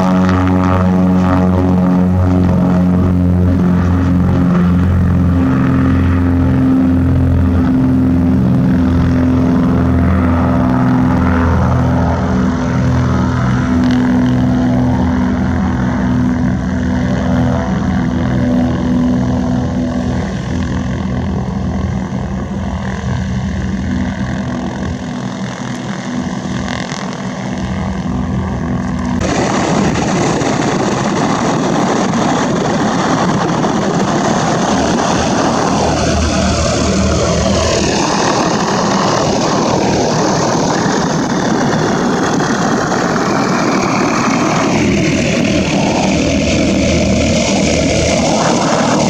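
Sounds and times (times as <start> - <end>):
propeller aircraft engine droning: 0.0 - 49.0.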